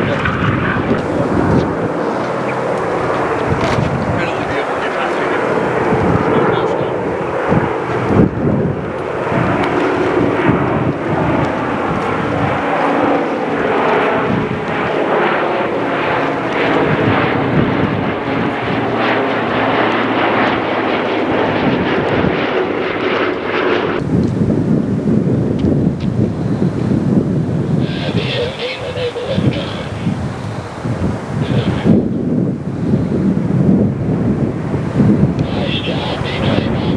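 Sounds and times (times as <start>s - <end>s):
propeller plane engines droning: 0.0s - 36.9s.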